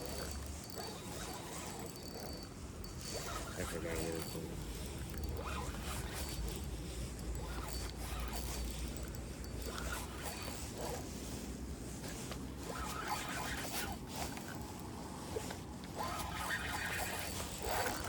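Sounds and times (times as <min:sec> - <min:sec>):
fishing reel whirring: 0:00.0 - 0:18.0.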